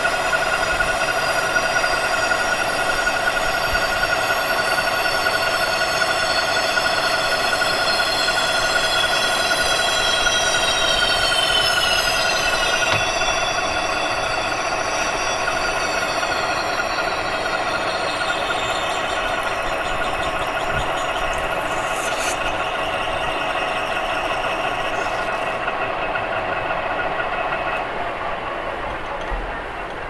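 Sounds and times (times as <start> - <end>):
tool scraping spinning metal: 0.0 - 25.7
metal lathe whining: 0.0 - 29.8.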